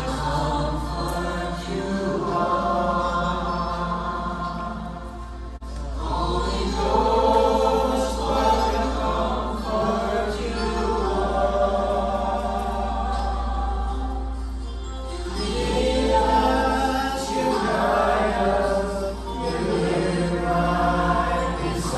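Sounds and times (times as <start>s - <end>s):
men singing in harmony: 0.0s - 21.9s.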